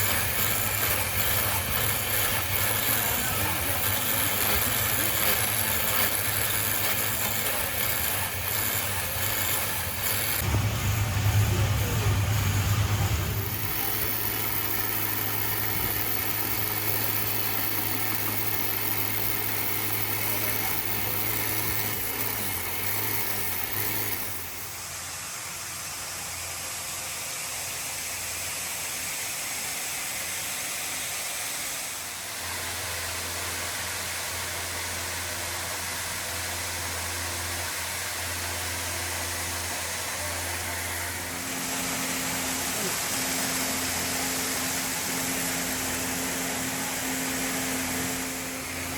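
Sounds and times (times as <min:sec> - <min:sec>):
electric motor humming: 0:00.0 - 0:30.9, 0:31.8 - 0:48.9.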